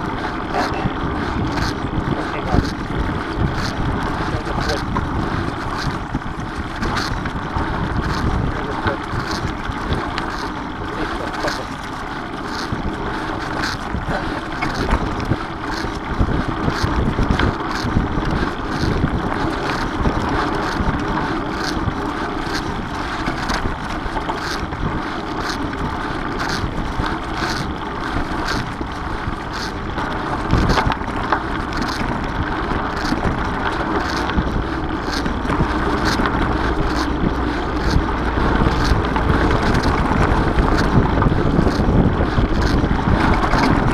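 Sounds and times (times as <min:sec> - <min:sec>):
bike ticking and rattling: 0:00.0 - 0:43.9
bike tyres rolling on dirt: 0:00.0 - 0:43.9
wind on microphone: 0:00.0 - 0:43.9.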